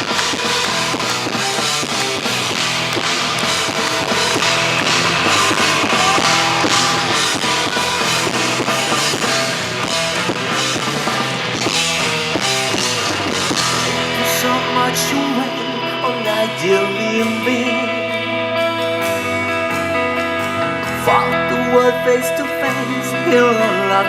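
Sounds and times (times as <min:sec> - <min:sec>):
distorted live rock band: 0:00.0 - 0:24.0.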